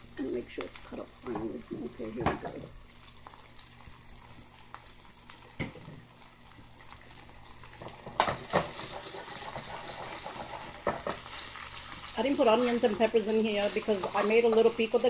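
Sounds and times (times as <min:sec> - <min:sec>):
chicken sizzling in a skillet: 0:00.0 - 0:15.0.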